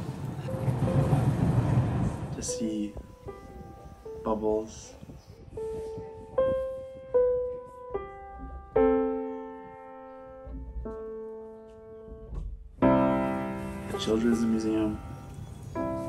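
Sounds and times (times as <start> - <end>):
slow piano notes: 0.0 - 16.0.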